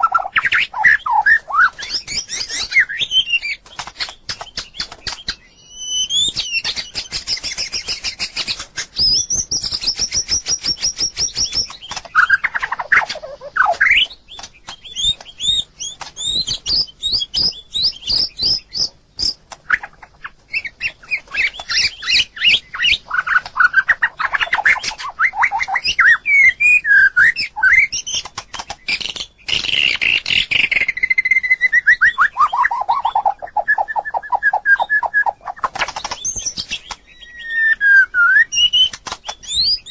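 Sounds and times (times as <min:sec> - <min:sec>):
bird singing whistled phrases: 0:00.0 - 0:39.9
rapid clicking bird notes: 0:00.0 - 0:39.9.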